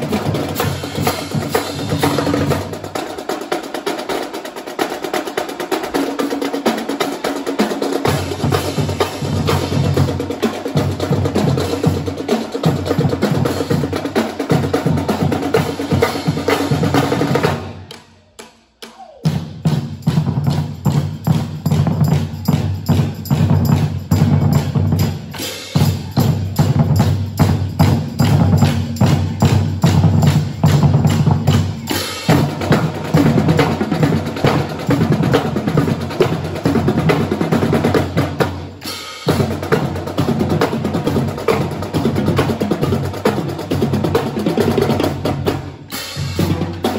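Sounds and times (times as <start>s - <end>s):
marching drumline playing: 0.0s - 46.9s.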